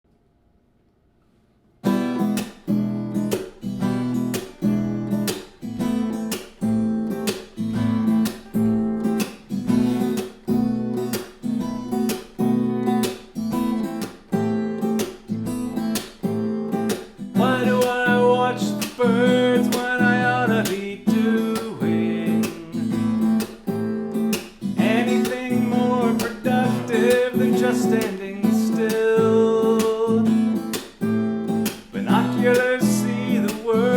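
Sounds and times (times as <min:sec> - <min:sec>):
acoustic guitar strumming: 0:01.8 - 0:33.9
bending guitar melody: 0:01.8 - 0:33.9.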